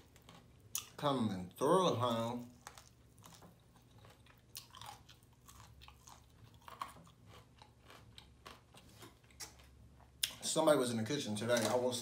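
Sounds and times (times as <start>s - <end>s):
person chewing crunchy food: 0.0s - 10.4s.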